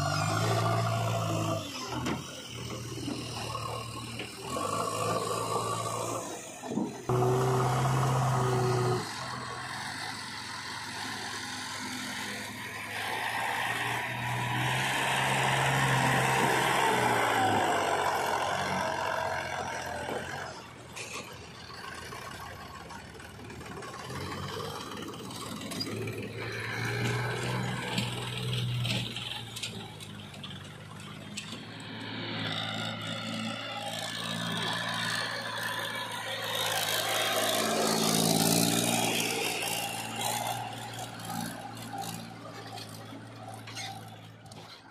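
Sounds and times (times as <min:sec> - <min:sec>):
tractor engines running under load: 0:00.0 - 0:44.9.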